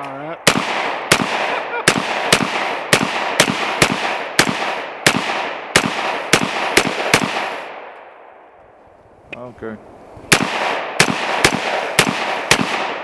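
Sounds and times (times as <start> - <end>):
rifle shots with echo: 0.4 - 8.4, 10.3 - 13.0.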